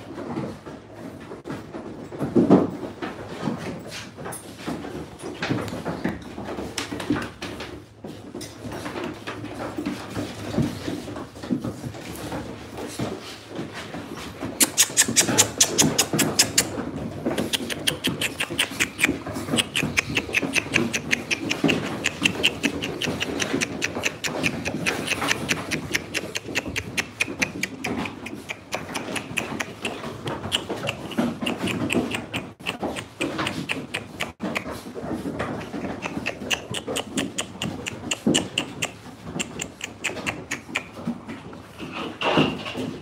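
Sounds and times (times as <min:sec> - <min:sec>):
puppies grunting: 0:00.1 - 0:43.0
puppies huffing: 0:02.9 - 0:43.0.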